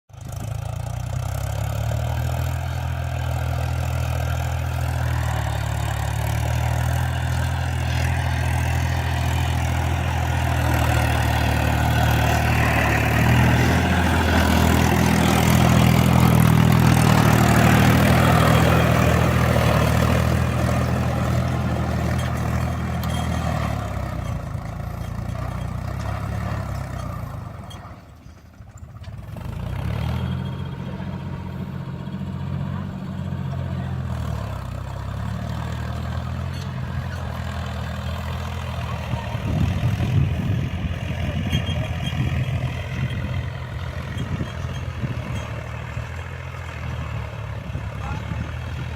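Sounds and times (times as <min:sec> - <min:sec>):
tractor engine droning: 0:00.1 - 0:48.9.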